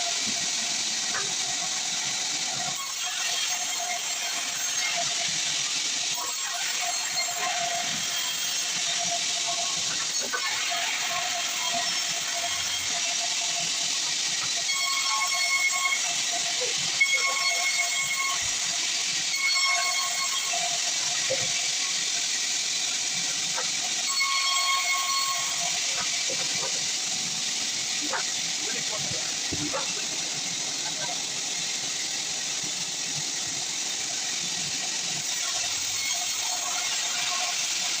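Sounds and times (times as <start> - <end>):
saw cutting through log: 0.0 - 38.0.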